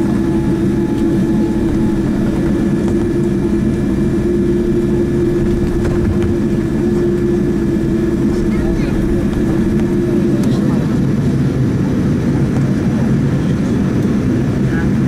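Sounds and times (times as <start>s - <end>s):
aircraft engines low rumble: 0.0s - 15.0s.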